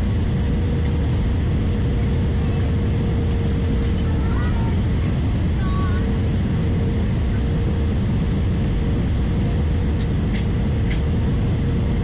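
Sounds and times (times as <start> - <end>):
airliner cabin engine rumble: 0.0 - 12.0
faint constant hum: 0.0 - 12.0.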